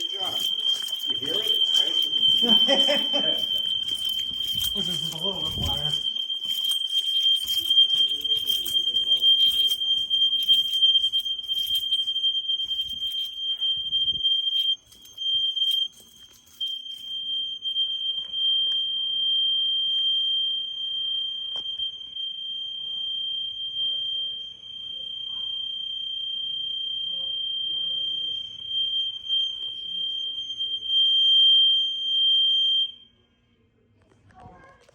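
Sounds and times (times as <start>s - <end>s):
fire alarm high-pitched tone: 0.0s - 33.4s.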